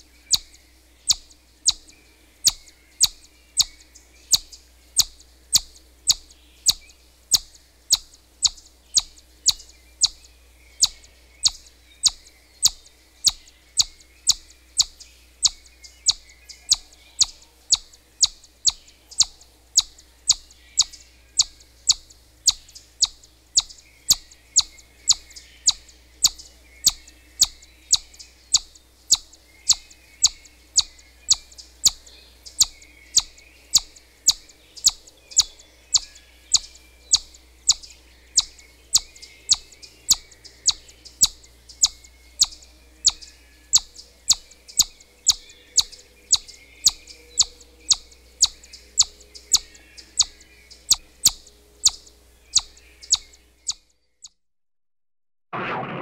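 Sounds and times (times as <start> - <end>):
squirrel alarm call chips: 0.3 - 53.8.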